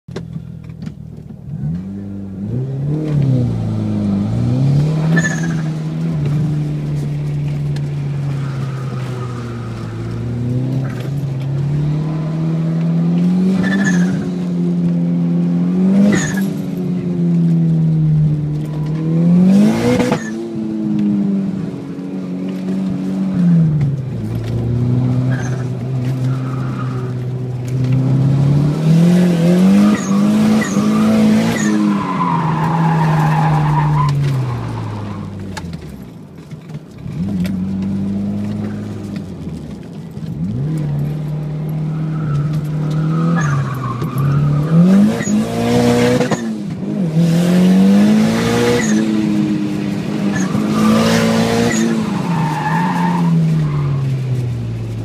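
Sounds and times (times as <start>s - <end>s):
car engine revving: 1.3s - 55.0s
tires squealing: 1.6s - 15.0s, 15.8s - 21.0s, 22.2s - 36.0s, 40.4s - 55.0s.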